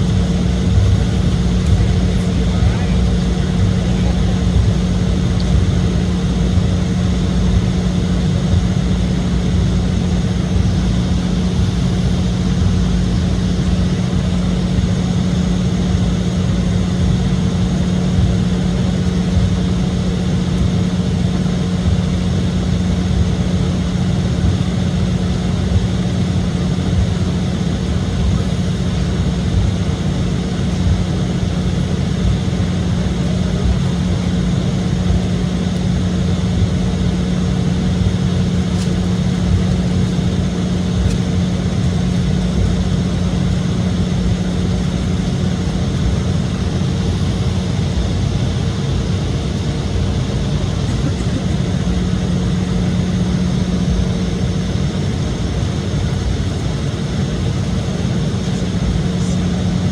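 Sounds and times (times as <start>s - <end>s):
jet engine and airflow in cabin: 0.0s - 59.9s.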